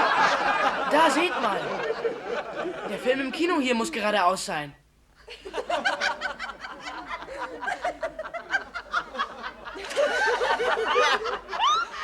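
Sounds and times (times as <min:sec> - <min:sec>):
studio audience laughing: 0:00.0 - 0:03.1, 0:05.3 - 0:12.0.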